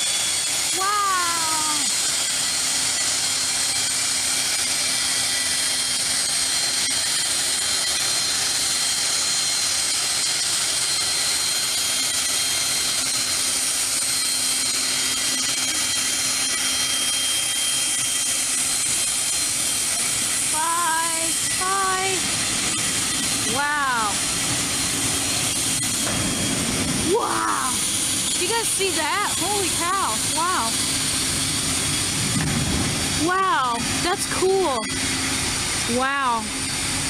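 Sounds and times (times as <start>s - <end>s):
turbine engine hiss and whine: 0.0s - 37.0s.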